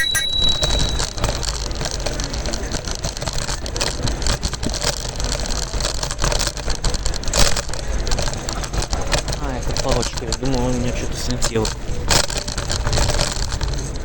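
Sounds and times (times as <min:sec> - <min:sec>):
clicking and rattling: 0:00.3 - 0:14.0
kick scooter rumbling on pavement: 0:00.7 - 0:14.0
stick cracking under wheel: 0:01.2 - 0:14.0.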